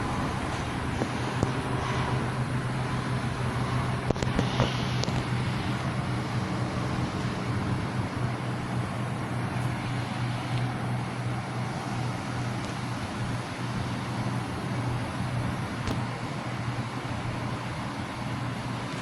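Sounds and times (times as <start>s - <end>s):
helicopter drone: 0.0s - 19.0s.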